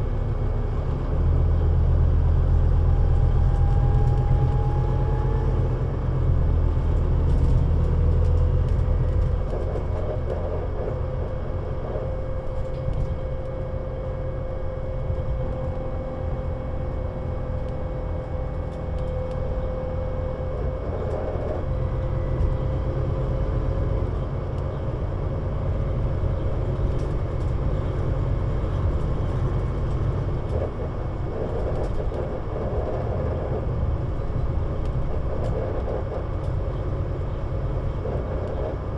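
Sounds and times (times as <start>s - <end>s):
bus engine rumble: 0.0s - 38.9s.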